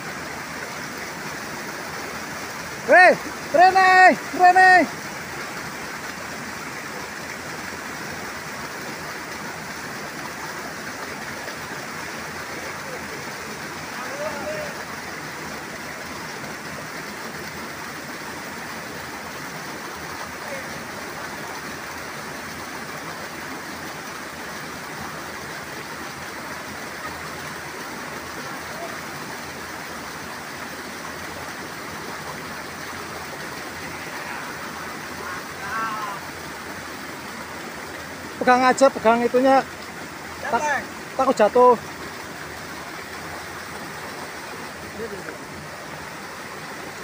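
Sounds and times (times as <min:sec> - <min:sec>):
waterfall and river water rushing: 0:00.0 - 0:47.0.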